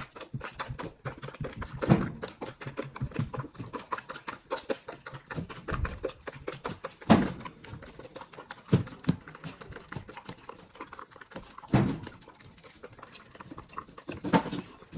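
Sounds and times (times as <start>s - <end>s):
dog chewing food: 0.0s - 14.9s.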